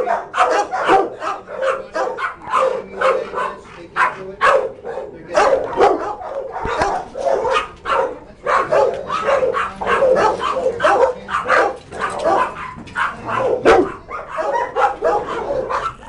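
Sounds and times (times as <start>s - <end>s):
dogs barking: 0.0s - 16.0s.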